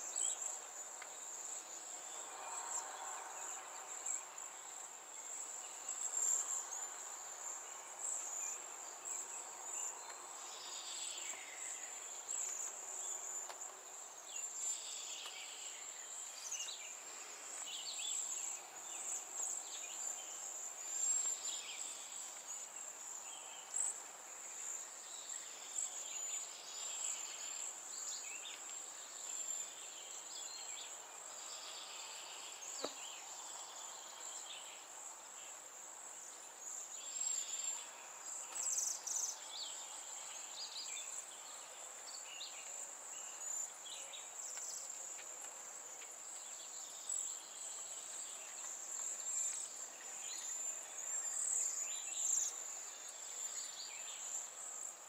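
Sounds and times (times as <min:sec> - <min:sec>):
crickets trilling: 0:00.1 - 0:55.0.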